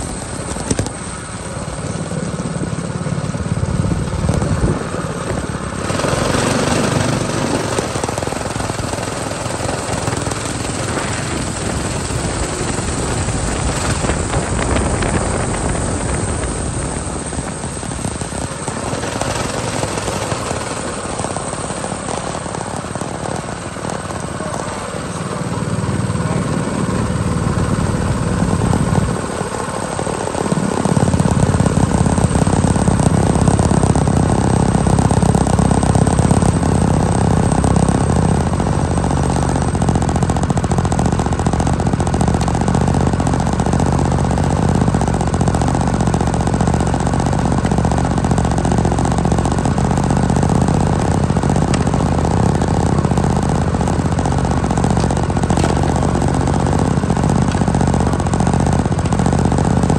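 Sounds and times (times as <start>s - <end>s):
small engine running: 0.0s - 59.9s.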